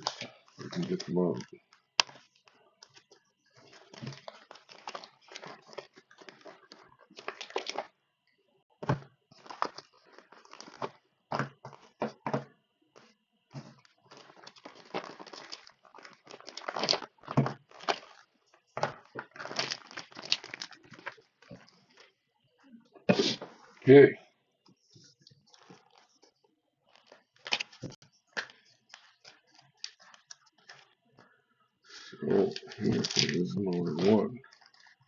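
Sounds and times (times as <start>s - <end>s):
plastic packaging crinkling: 0.0s - 7.9s, 8.8s - 12.3s, 13.0s - 22.1s, 24.9s - 31.0s, 32.2s - 35.0s.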